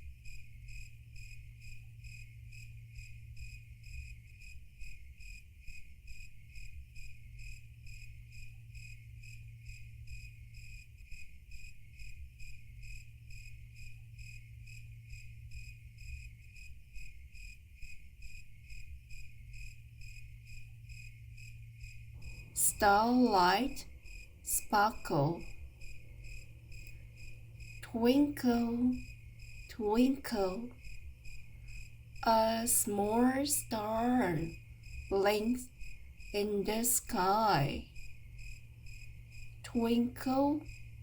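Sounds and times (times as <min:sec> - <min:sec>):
crickets chirping: 0:00.0 - 0:41.0
low steady hum: 0:00.0 - 0:41.0.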